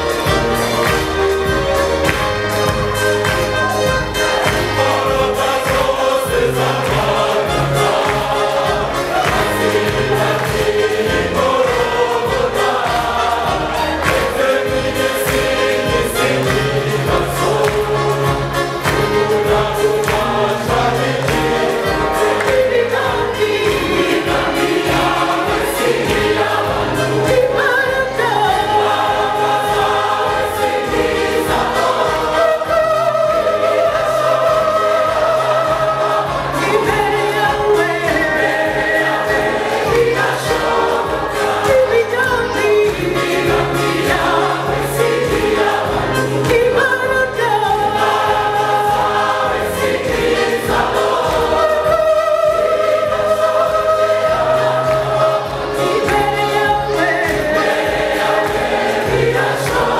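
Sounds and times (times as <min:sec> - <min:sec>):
choir singing a gospel hymn: 0:00.0 - 0:59.9.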